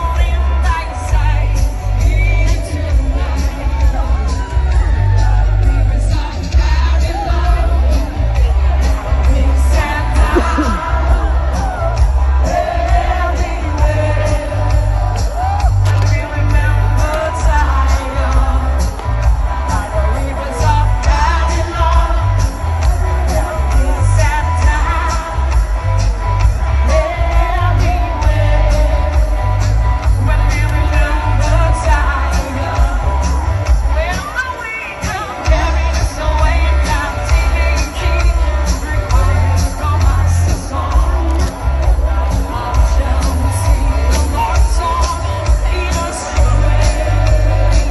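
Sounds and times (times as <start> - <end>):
amplified singing voice: 0.0 - 47.9
live band music with heavy bass: 0.0 - 47.9.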